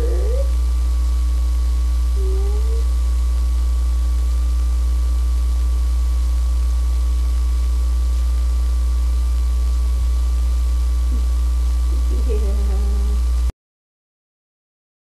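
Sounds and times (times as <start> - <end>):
even hiss: 0.0 - 13.5
faint steady whine: 0.0 - 13.5
low electrical hum: 0.0 - 13.5.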